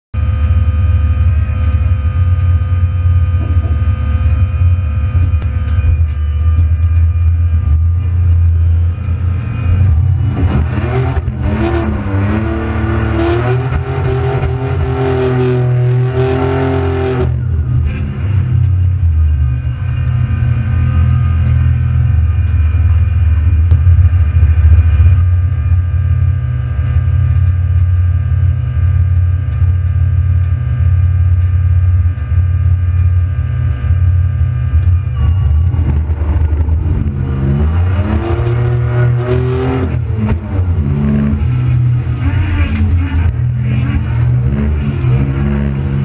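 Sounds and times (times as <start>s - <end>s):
car engine idling and revving: 0.2s - 46.0s.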